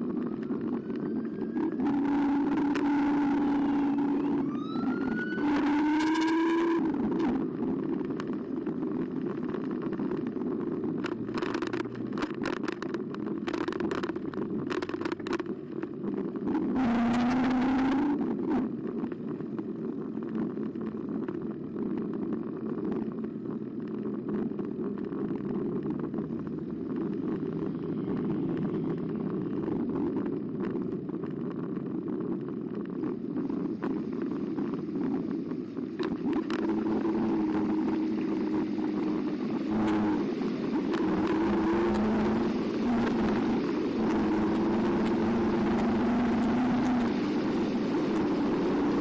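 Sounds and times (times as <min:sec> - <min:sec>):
wind and tyre noise: 0:00.0 - 0:49.0.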